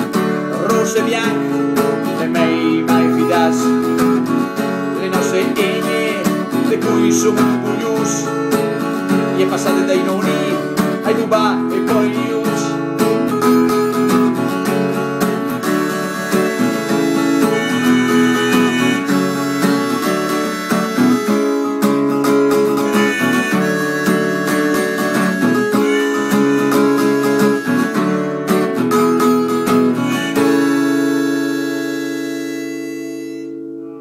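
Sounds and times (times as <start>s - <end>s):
harmonica melody: 0.0s - 11.3s, 13.2s - 34.0s
acoustic guitar strumming: 0.0s - 34.0s.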